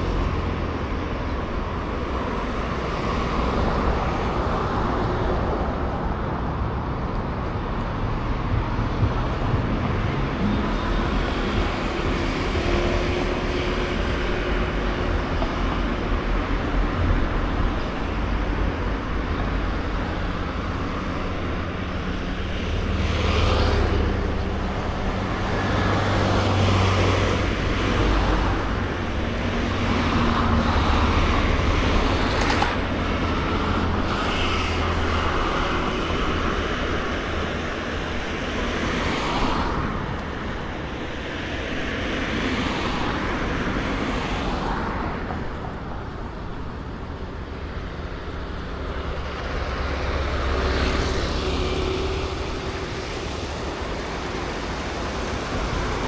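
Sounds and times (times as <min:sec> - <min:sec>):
cars passing: 0:00.0 - 0:56.0
low traffic rumble: 0:00.0 - 0:56.0.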